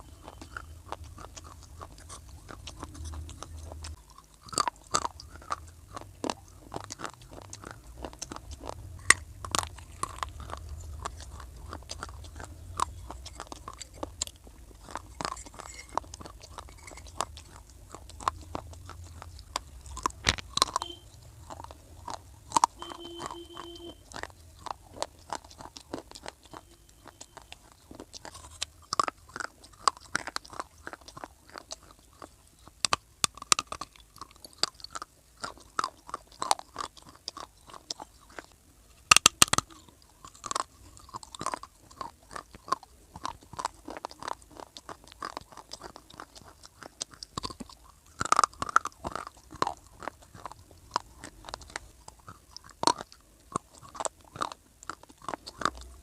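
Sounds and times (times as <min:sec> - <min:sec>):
chewing hard dry clay: 0:00.0 - 0:56.0.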